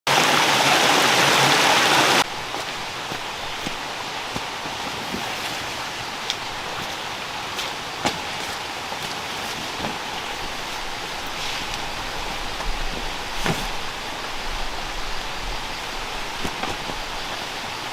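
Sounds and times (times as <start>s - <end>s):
heavy rain: 0.1s - 17.9s
steady rain hiss: 0.1s - 17.9s.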